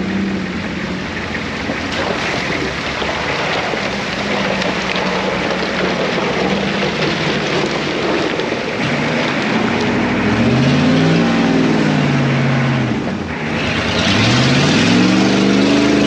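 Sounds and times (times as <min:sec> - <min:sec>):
vehicle engine running: 0:00.0 - 0:16.0
rushing water or wind: 0:01.0 - 0:16.0.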